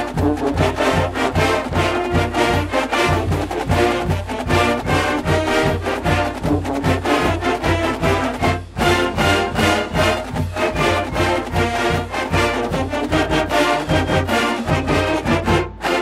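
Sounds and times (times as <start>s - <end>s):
brass band music: 0.0s - 16.0s.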